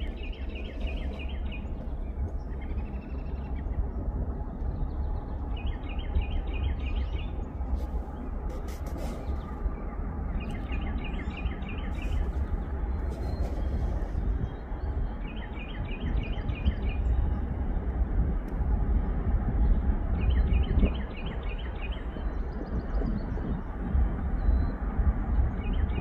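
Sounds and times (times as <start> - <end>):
songbird chirping: 0.0 - 17.9, 19.6 - 23.7
steady low rumble: 0.0 - 26.0.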